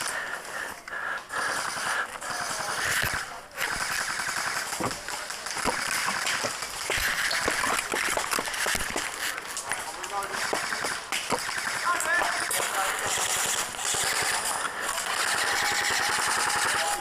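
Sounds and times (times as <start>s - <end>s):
airsoft guns firing: 1.3s - 17.0s.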